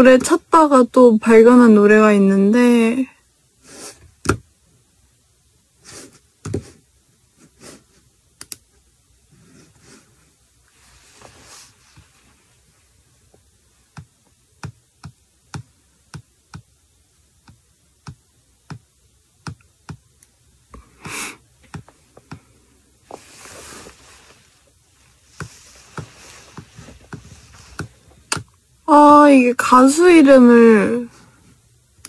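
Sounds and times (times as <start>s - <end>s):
quiet hiss: 0.0s - 32.0s.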